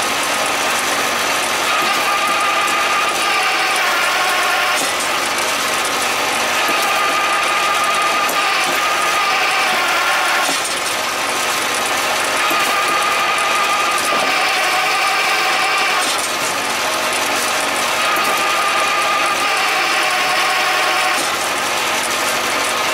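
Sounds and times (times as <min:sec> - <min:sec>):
hydraulic log splitter whining: 0:00.0 - 0:22.9.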